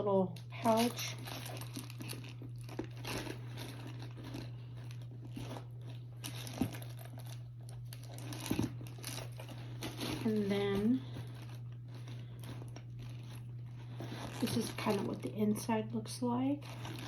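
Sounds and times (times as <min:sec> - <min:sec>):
steady low hum: 0:00.0 - 0:17.0
packaging wrap crinkling: 0:00.4 - 0:15.6, 0:16.5 - 0:17.0.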